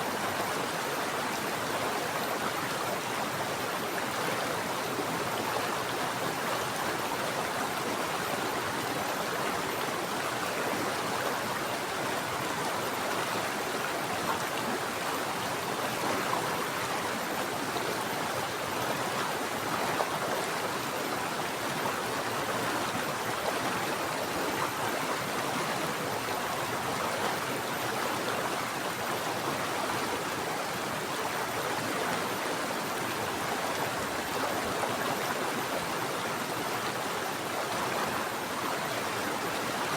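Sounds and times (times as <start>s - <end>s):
stream water flowing and splashing: 0.0s - 39.9s.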